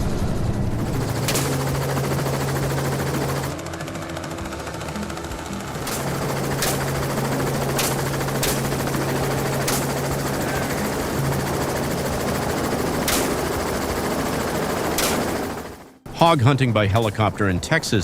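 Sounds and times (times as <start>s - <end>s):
helicopter running: 0.0s - 18.0s.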